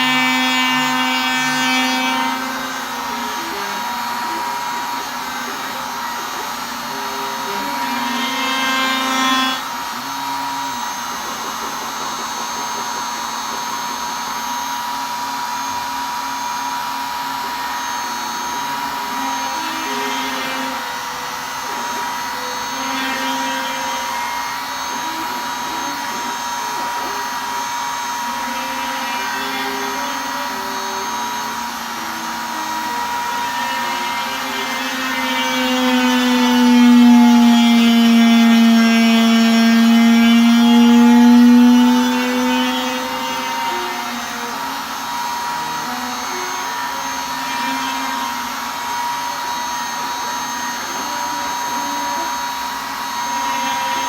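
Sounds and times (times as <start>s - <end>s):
motor hum changing pitch: 0.0s - 54.0s
router spindle whine: 0.0s - 54.0s.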